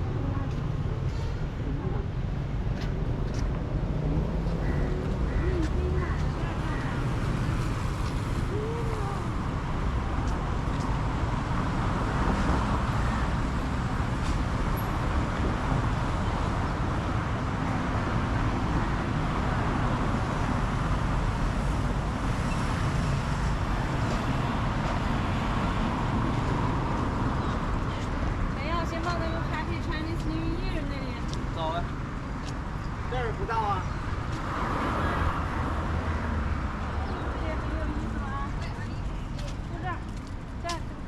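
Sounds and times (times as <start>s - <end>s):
low rumble of traffic: 0.0s - 41.0s.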